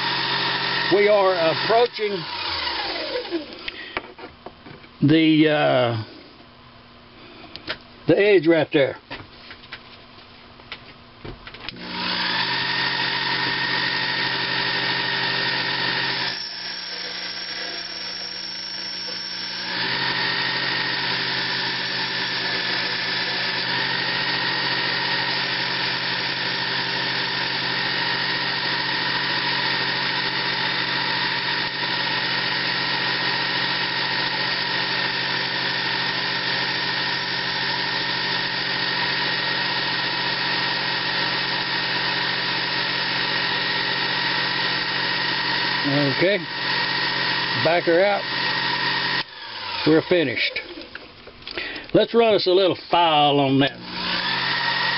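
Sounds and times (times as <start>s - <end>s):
mini lathe motor whining: 0.0s - 4.0s, 11.7s - 51.8s, 53.2s - 54.9s.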